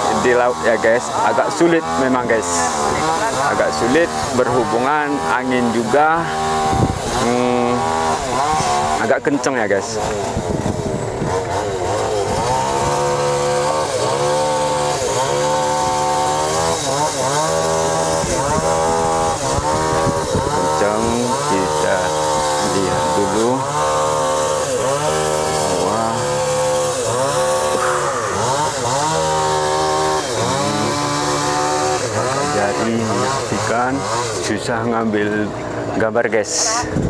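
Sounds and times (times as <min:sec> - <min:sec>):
outboard motor running: 0:00.0 - 0:37.0.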